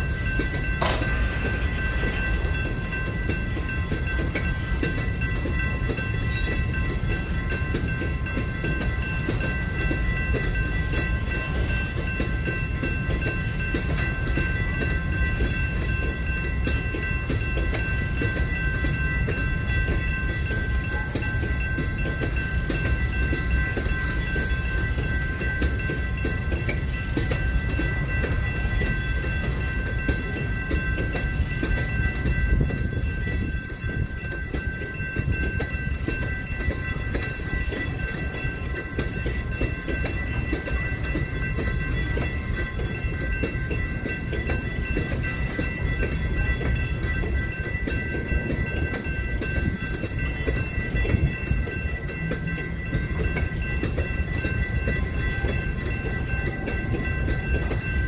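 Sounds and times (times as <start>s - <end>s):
train cars rumbling past: 0.0s - 58.0s.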